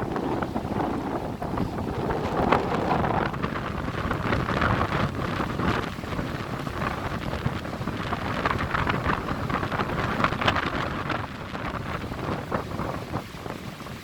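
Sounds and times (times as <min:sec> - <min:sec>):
gusty wind on microphone: 0:00.0 - 0:14.0.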